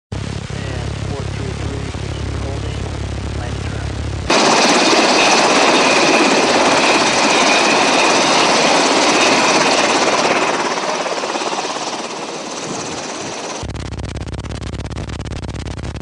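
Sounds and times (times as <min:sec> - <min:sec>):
helicopter rushing noise: 0:00.1 - 0:14.2
faint high whine: 0:00.2 - 0:13.7.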